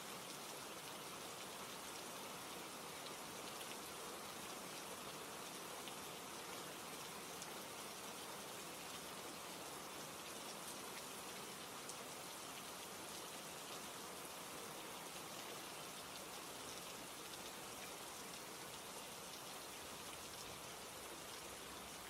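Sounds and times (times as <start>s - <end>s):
soft rain: 0.0s - 22.0s.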